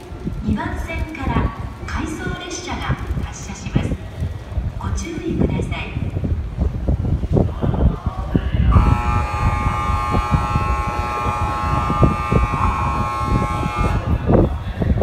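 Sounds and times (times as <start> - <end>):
low rumble of station platform: 0.0 - 15.0.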